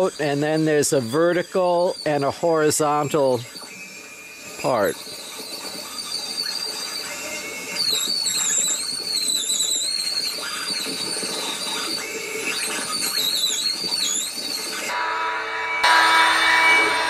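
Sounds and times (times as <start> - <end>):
high wavering squeal: 0.0 - 17.0
multi-tool buzzing: 0.0 - 17.0.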